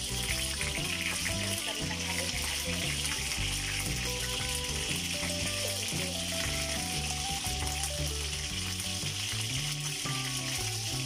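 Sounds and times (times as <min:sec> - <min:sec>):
chicken wings sizzling in oil: 0:00.0 - 0:11.0
spatula turning food in pan: 0:00.0 - 0:11.0.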